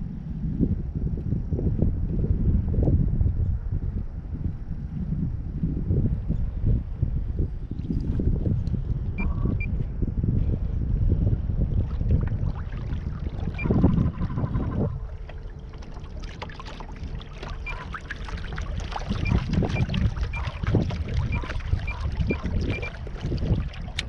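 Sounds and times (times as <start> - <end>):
faint steady hum: 0.0 - 24.0
water and kayak hull rumbling: 0.0 - 24.0.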